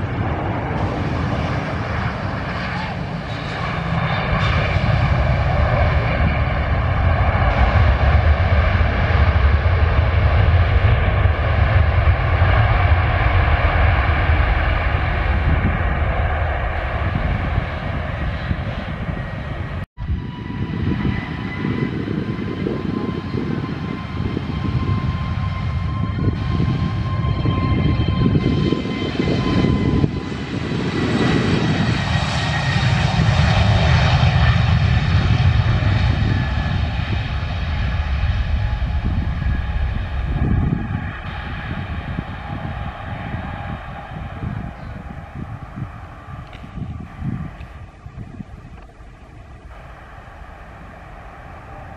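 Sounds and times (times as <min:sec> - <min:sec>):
jet engines high whine: 0:00.0 - 0:51.9
jet engines running loud and deep: 0:00.0 - 0:51.9.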